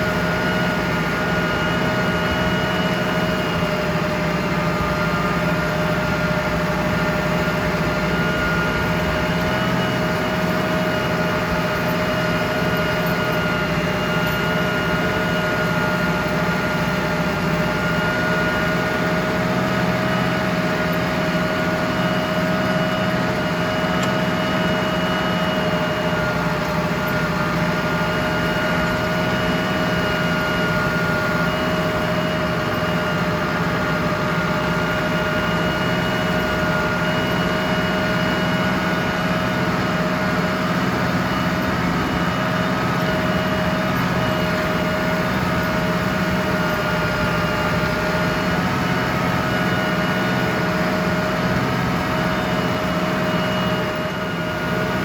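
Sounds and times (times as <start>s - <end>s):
steady high whine: 0.0s - 55.0s
tractor diesel engine running: 0.0s - 55.0s.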